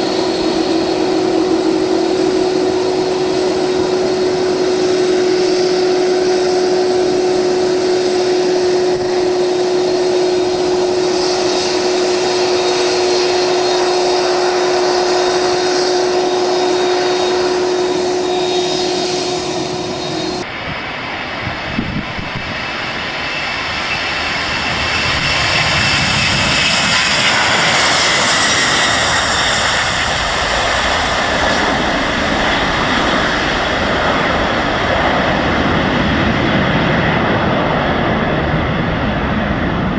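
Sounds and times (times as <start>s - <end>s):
aircraft passing at power: 0.0s - 39.9s
airliner engines humming: 0.0s - 39.9s.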